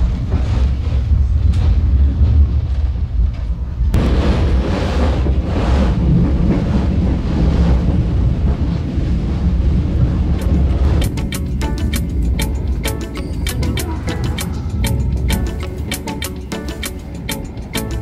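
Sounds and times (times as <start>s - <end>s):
train carriage rumbling on track: 0.0s - 18.0s.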